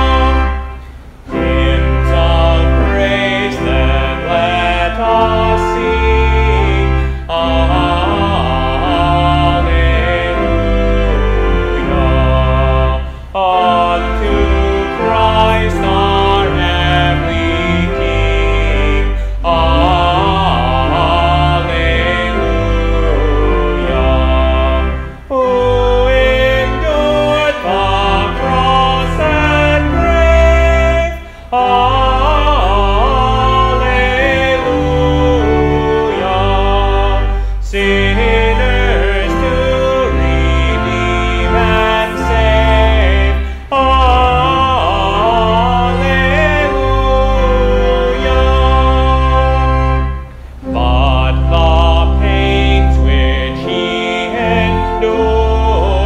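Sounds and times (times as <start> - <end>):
sustained instrumental accompaniment: 0.0 - 56.0
voices singing a hymn: 0.0 - 56.0.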